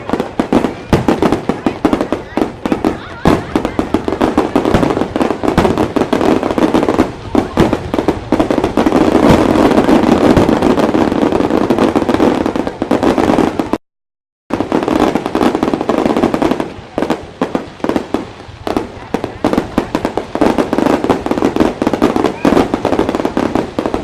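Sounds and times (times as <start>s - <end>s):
fireworks crackling bangs: 0.0s - 13.8s, 14.5s - 24.0s.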